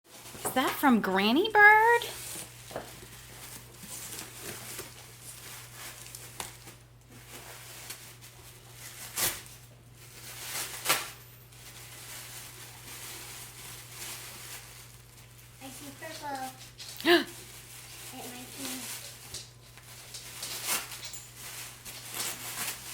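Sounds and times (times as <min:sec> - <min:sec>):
wrapping paper rustling: 0:00.1 - 0:22.9.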